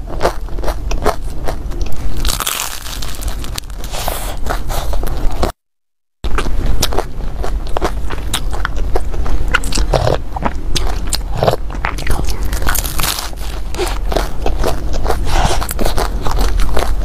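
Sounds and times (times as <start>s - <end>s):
person chewing food: 0.0s - 5.6s, 6.3s - 17.0s.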